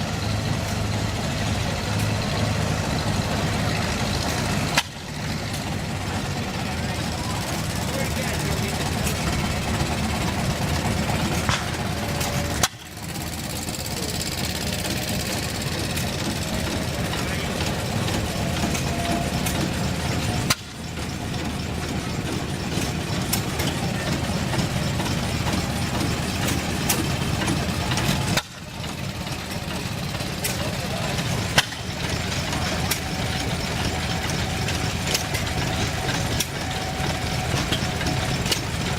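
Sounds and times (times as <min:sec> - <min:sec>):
gas engines chugging: 0:00.0 - 0:38.9.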